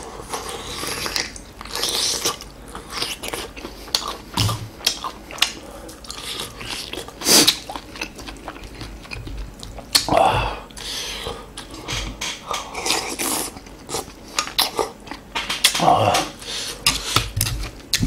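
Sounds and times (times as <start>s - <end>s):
person chewing meat: 0.0s - 18.0s.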